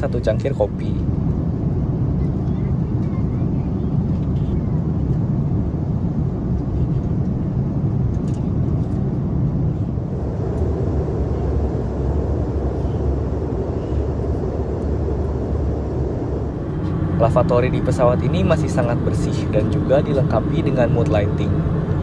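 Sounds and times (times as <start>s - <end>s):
airliner cabin noise: 0.0s - 22.0s.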